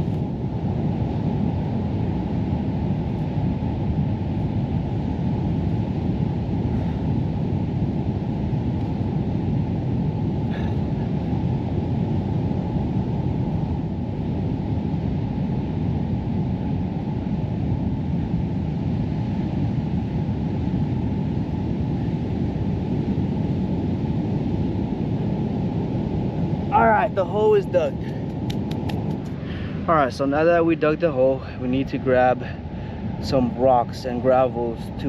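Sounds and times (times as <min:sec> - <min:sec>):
surf rumbling: 0:00.0 - 0:35.0
wind: 0:00.0 - 0:35.0.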